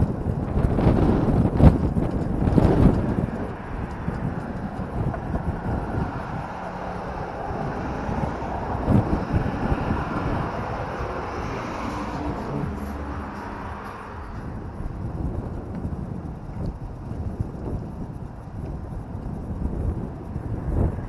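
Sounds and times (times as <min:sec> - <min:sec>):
motorcycle engine running: 0:00.0 - 0:21.0
wind rush: 0:00.0 - 0:21.0.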